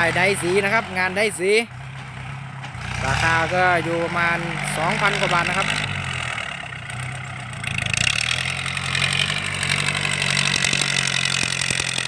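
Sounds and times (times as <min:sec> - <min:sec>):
loud engine exhaust idling: 0:00.0 - 0:12.0.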